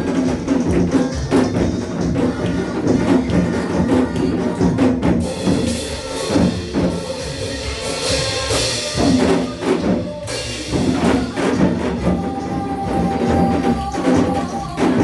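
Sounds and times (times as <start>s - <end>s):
hourglass drums struck in rhythm: 0.0s - 15.0s
recorded pop song playing: 0.0s - 15.0s.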